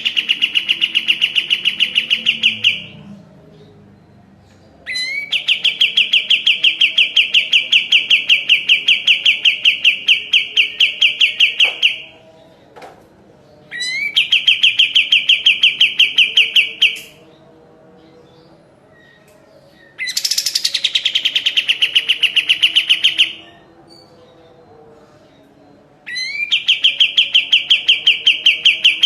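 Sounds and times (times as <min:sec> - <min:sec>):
bird singing rapid trill: 0:00.0 - 0:12.5, 0:13.6 - 0:24.9, 0:26.1 - 0:29.0.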